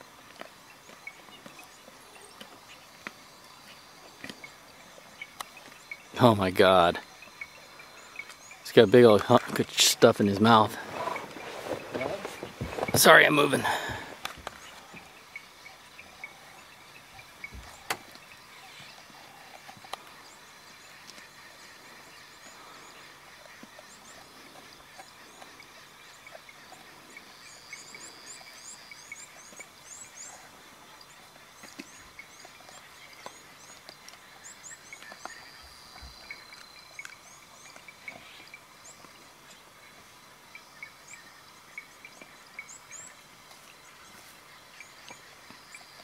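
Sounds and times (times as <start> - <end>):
birds and insects calling: 0.0 - 46.0.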